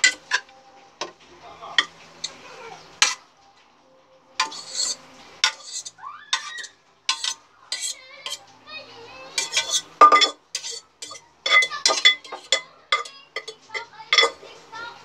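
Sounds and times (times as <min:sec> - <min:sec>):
pot and utensils clinking on pan: 0:00.0 - 0:03.3, 0:04.4 - 0:08.5, 0:09.3 - 0:14.6.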